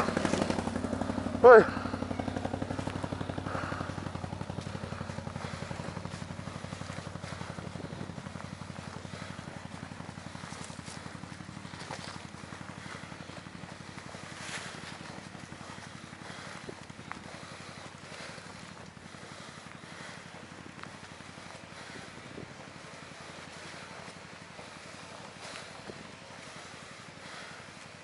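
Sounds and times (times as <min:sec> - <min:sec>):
atv engine idling: 0:00.0 - 0:28.0.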